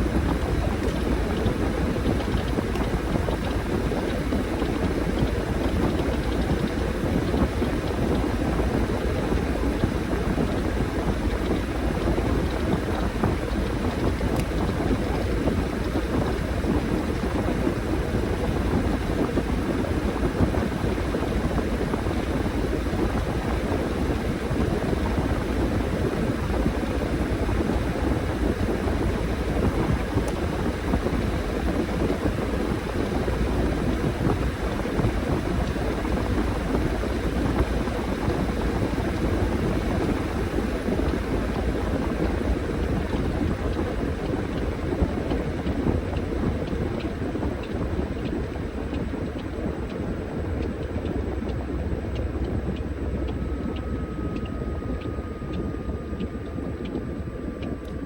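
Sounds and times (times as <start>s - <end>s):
washing machine churning: 0.0s - 58.0s.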